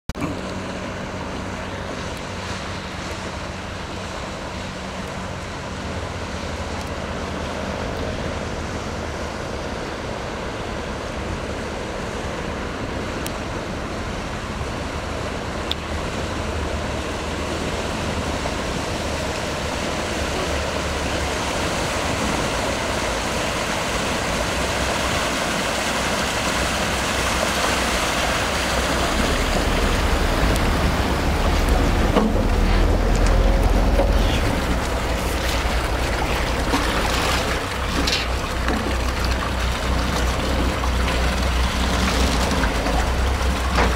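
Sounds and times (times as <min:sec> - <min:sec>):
ferry engine hum: 0:00.1 - 0:43.9
rush of bow wave: 0:00.2 - 0:43.9.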